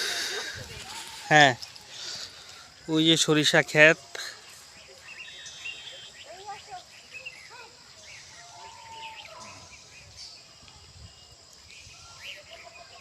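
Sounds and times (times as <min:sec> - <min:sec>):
small birds chirping: 0:00.0 - 0:13.0
steady high-pitched hiss: 0:00.0 - 0:13.0.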